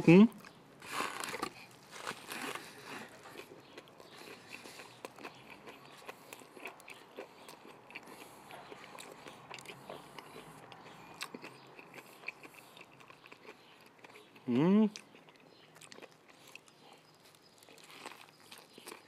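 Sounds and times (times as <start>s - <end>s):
person chewing close up: 0.4s - 19.0s.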